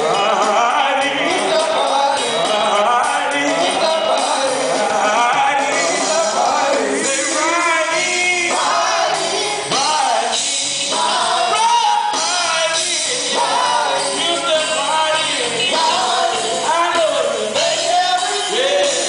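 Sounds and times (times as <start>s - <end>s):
band accompaniment: 0.0s - 19.0s
gospel quartet singing: 0.0s - 19.0s.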